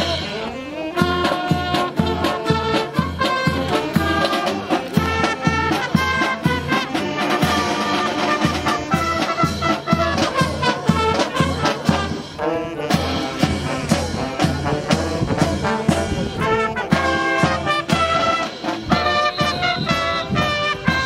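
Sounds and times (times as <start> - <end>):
swing brass music: 0.0 - 21.0.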